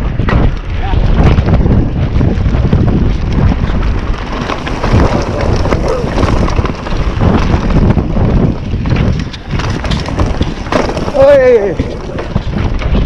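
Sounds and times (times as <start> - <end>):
bike clicks and rattles: 0.0 - 13.0
wind buffeting microphone: 0.0 - 13.0
tyres rolling over gravel: 0.3 - 13.0.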